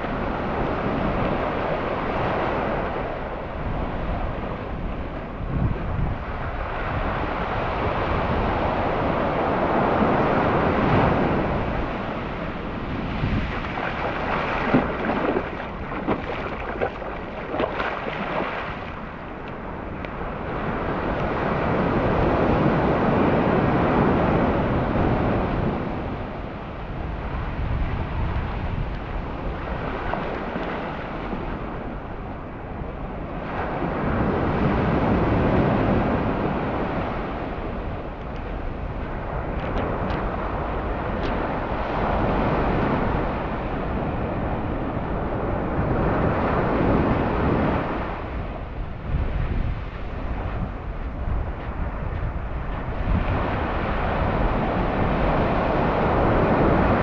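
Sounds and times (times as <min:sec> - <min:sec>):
wind buffeting microphone: 0:00.0 - 0:57.0
surf washing onto beach: 0:06.2 - 0:57.0.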